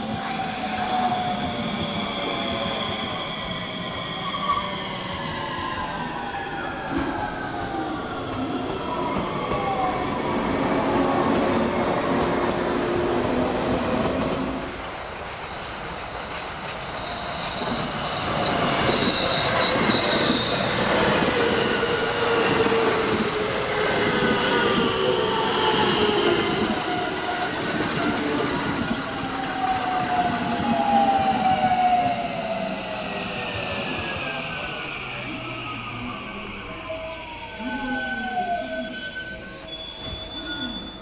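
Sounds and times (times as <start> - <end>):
train wheels squealing: 0.0 - 10.2, 14.6 - 41.0
electric train passing: 0.0 - 40.1.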